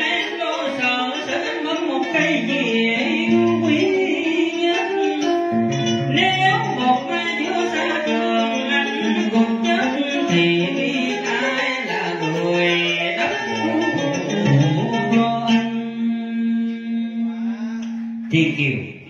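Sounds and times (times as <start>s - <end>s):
plucked string accompaniment: 0.0s - 18.8s.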